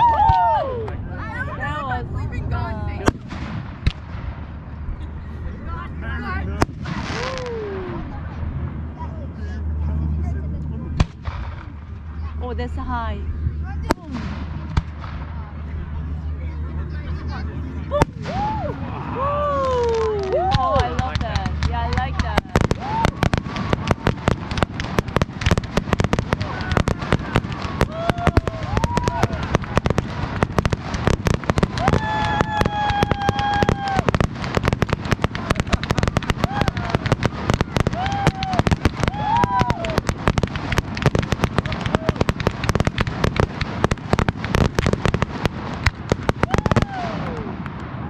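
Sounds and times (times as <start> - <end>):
fireworks bangs and crackling: 0.0 - 1.0, 1.6 - 5.1, 5.9 - 9.0, 10.9 - 48.0
low rumble: 0.0 - 48.0.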